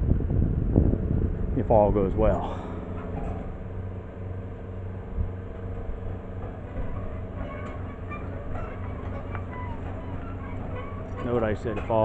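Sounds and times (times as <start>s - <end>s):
tracked machine engine under load: 0.9s - 12.0s.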